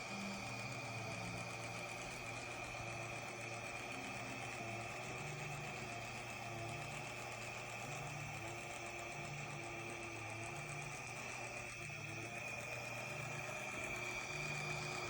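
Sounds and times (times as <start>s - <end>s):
low regular pulsing: 0.0s - 15.0s
model locomotive whine: 0.0s - 15.0s.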